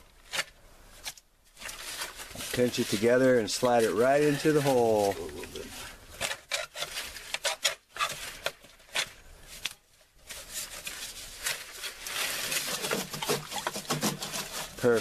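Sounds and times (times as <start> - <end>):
plastic pipe crinkling and scraping: 0.0 - 15.0.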